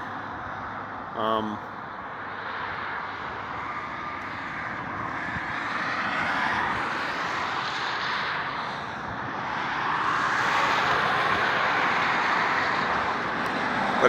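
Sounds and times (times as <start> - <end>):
highway traffic passing: 0.0 - 14.0.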